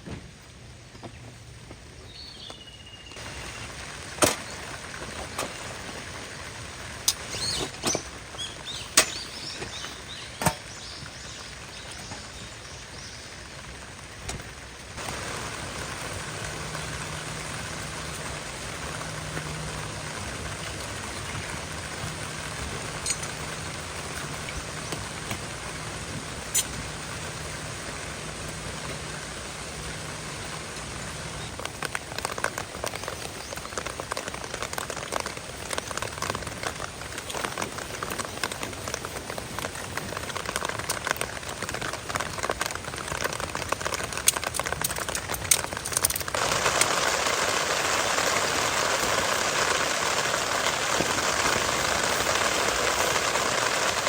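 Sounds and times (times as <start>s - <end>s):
rain pattering on a surface: 0.0s - 54.0s
steady rain falling: 0.0s - 54.0s.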